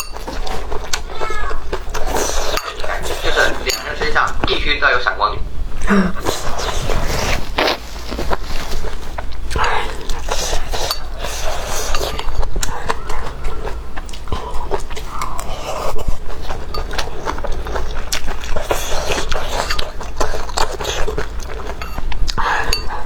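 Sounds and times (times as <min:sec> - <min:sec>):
chewing and lip smacking: 0:00.0 - 0:04.0, 0:07.6 - 0:23.0.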